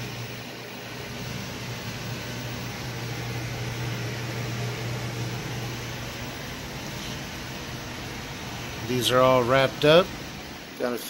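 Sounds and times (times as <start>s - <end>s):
fan hum with rushing air: 0.0s - 11.0s.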